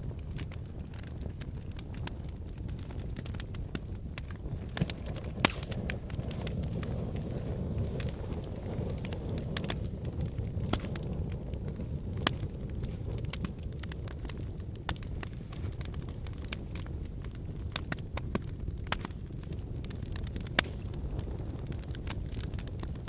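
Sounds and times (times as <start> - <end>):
fire crackling and popping: 0.0 - 23.0
low rumble of flames: 0.0 - 23.0.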